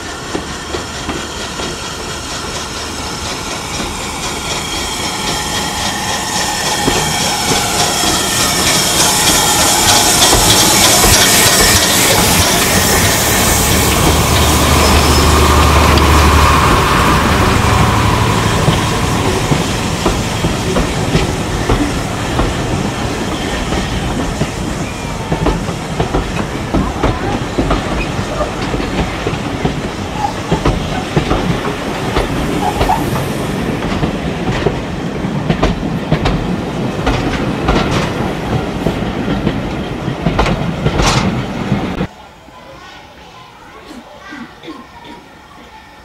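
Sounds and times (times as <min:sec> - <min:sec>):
train wheels clattering over rail joints: 0:00.0 - 0:42.1.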